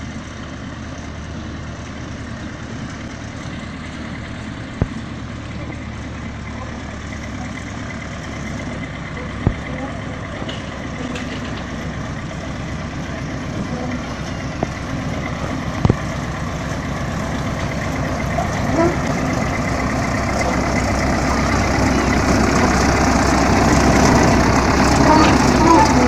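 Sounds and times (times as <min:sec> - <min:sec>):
locomotive engine running: 0:00.0 - 0:26.0.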